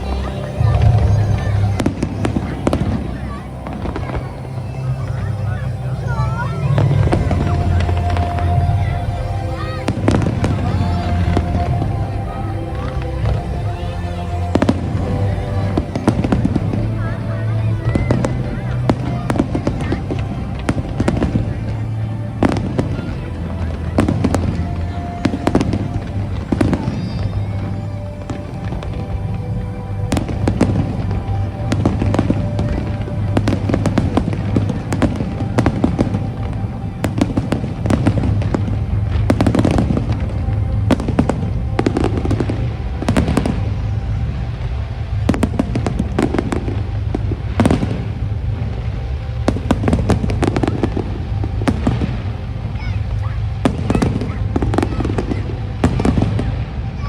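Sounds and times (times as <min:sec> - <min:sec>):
fireworks booming and cracking: 0:00.0 - 0:57.0
music playing: 0:00.0 - 0:57.0.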